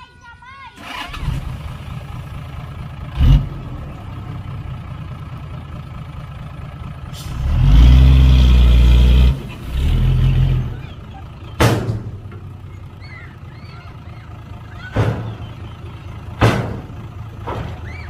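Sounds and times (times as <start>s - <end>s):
diesel engine running and revving: 0.8s - 18.0s.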